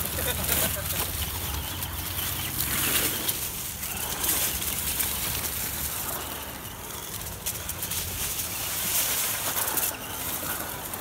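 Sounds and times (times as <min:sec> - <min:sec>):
leaves crackling: 0:00.0 - 0:11.0.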